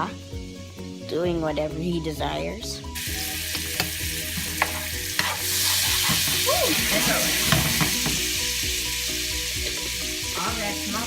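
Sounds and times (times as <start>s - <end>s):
onion and garlic sizzling in butter: 0.0s - 11.0s.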